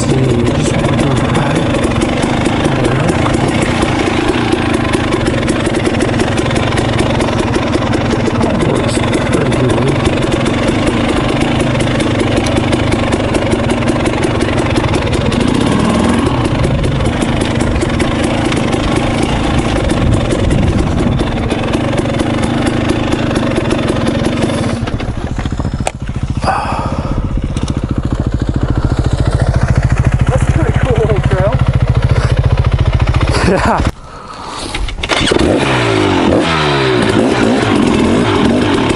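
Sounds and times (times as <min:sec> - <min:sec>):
two-stroke dirt bike engine: 0:00.0 - 0:38.9.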